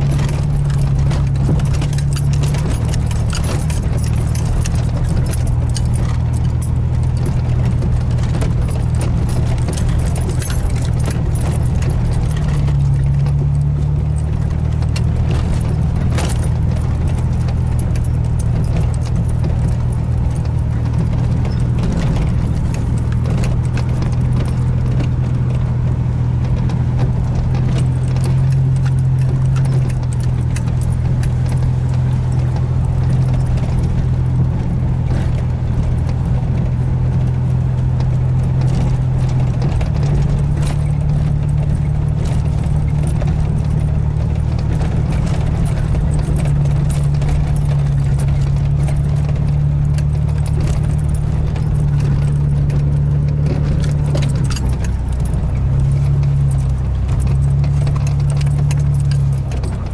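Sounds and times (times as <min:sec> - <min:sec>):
interior items rattling: 0:00.0 - 0:59.9
vehicle engine driving: 0:00.0 - 0:59.9.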